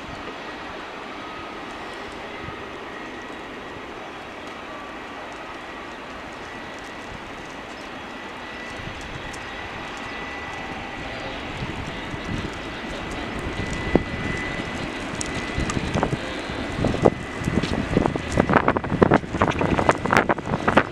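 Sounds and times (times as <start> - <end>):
jet engine rushing with whine: 0.0 - 20.9
wind buffeting microphone: 0.0 - 20.9.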